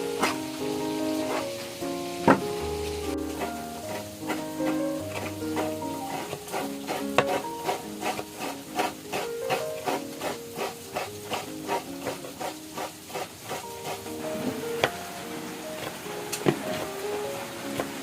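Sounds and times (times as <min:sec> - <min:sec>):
spatula scraping a pan: 0:00.0 - 0:15.0, 0:17.7 - 0:18.0
food sizzling: 0:00.0 - 0:18.0
soft background music: 0:00.0 - 0:18.0.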